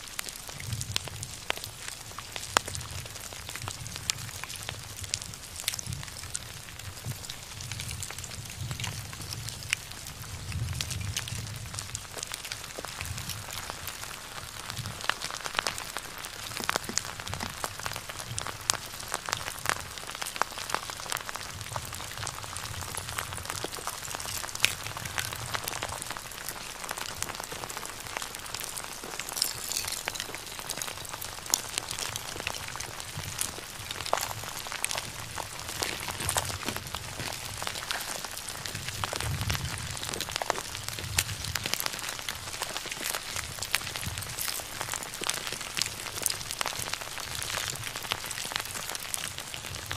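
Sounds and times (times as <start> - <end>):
fire crackling and sizzling: 0.0 - 49.9.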